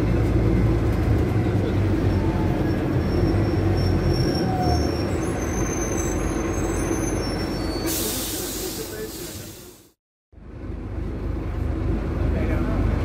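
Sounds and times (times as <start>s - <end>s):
bus engine drone: 0.0s - 13.0s
road rumble: 0.0s - 13.0s.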